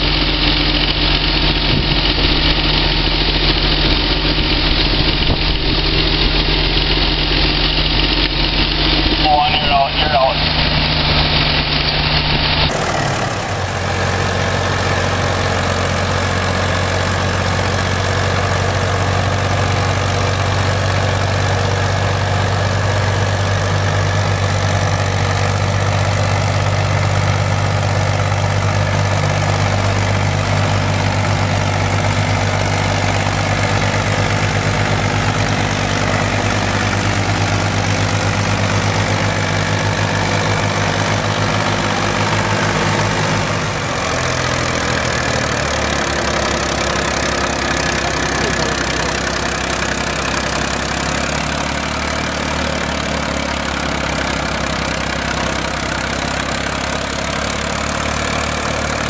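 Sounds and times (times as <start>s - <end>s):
tractor engine running hard: 0.0s - 59.0s.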